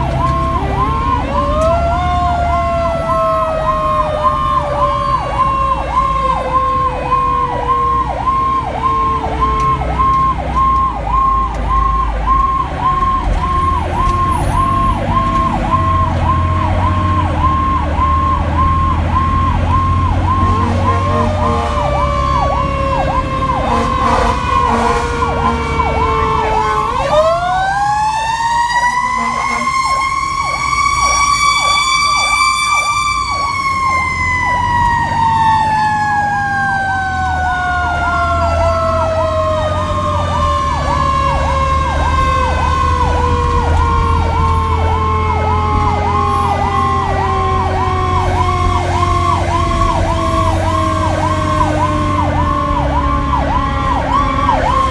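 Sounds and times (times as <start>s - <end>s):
electronic siren: 0.0s - 54.9s
truck engine rumbling: 0.0s - 54.9s.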